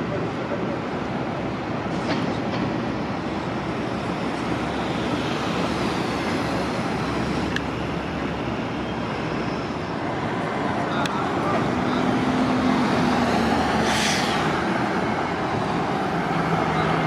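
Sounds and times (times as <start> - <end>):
heavy vehicles rumbling: 0.0 - 17.0.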